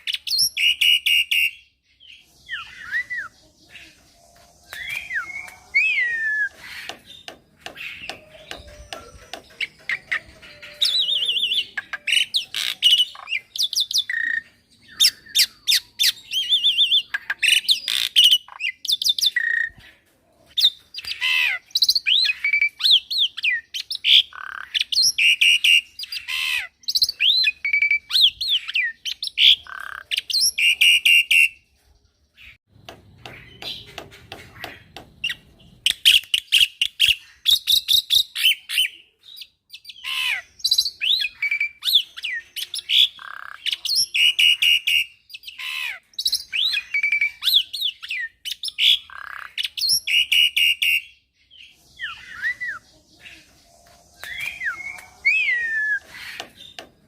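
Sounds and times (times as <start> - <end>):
bird singing chirps and whistles: 0.0 - 19.8, 20.5 - 31.7, 35.2 - 56.9.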